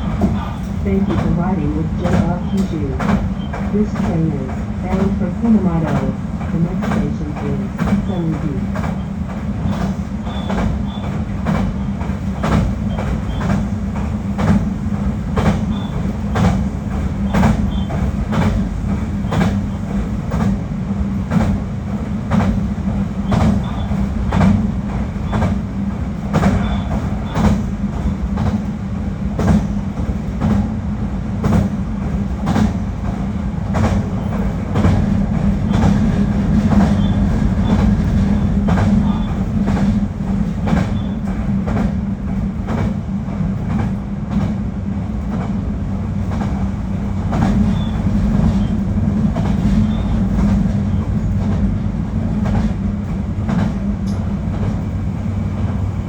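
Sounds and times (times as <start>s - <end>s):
train running drone: 0.0s - 56.0s.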